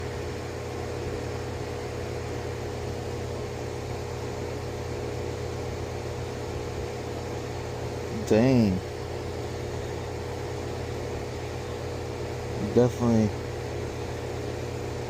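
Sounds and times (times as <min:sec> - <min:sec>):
air conditioning hum with fan: 0:00.0 - 0:15.0.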